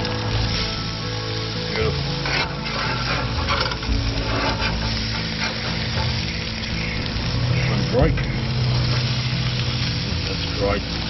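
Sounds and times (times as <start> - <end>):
fish fillets sizzling on grill: 0.0 - 11.0
metal spatula scraping grill: 0.0 - 11.0.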